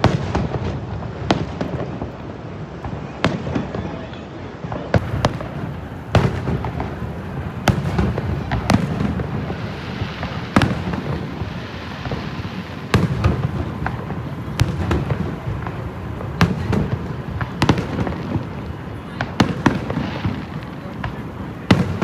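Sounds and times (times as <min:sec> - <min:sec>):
fireworks booming bursts: 0:00.0 - 0:03.8, 0:04.7 - 0:22.0.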